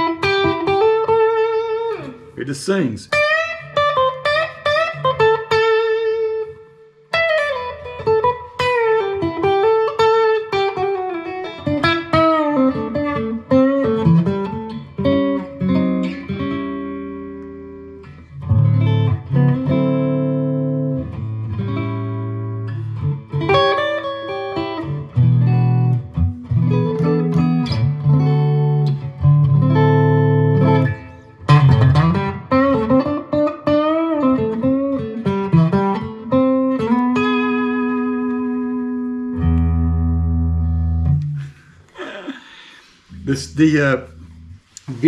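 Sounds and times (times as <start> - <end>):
electric guitar chords: 0.0 - 44.9
electric guitar lead lines: 0.0 - 45.0.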